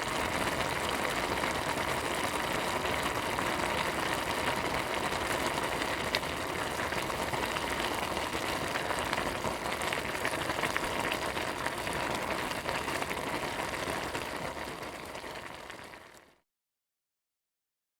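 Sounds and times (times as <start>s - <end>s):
food sizzling in a frying pan: 0.0s - 16.3s.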